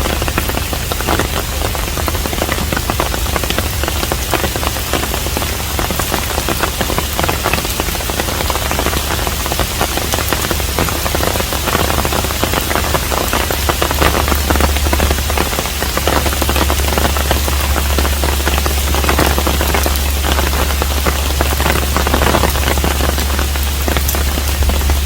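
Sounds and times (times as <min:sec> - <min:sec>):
rain falling on a house: 0:00.0 - 0:25.0
steady low rumble: 0:00.0 - 0:25.0.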